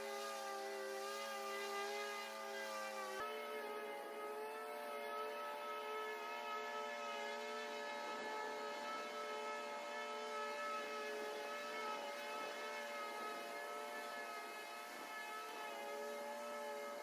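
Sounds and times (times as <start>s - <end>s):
riding lawn mower cutting grass: 0.0s - 17.0s.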